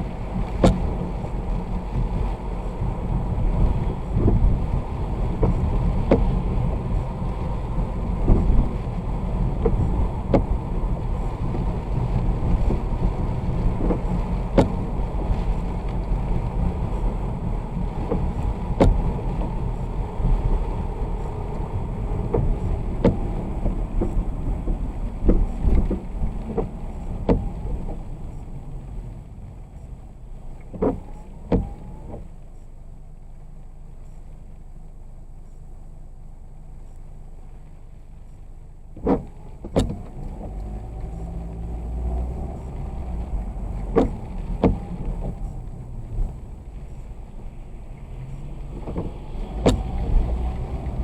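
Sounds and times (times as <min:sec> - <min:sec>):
road and engine rumble in car: 0:00.0 - 0:51.0.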